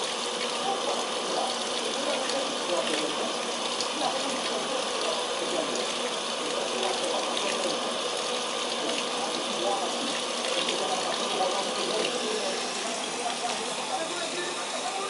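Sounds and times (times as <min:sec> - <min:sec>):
washing machine filling with water: 0:00.0 - 0:15.0.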